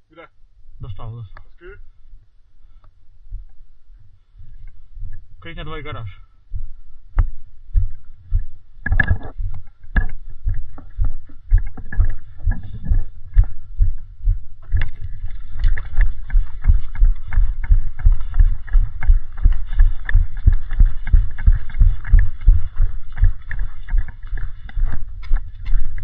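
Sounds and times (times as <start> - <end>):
gear jostling microphone: 1.1 - 26.0
footsteps: 2.1 - 26.0.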